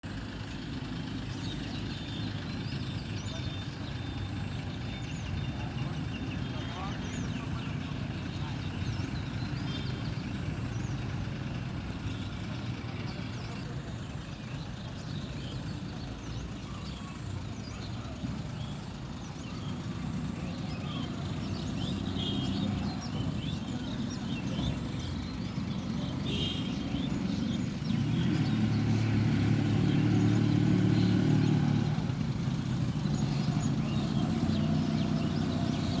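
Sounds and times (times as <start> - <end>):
birds chirping: 0.0 - 36.0
vehicle engine rumble: 0.0 - 36.0.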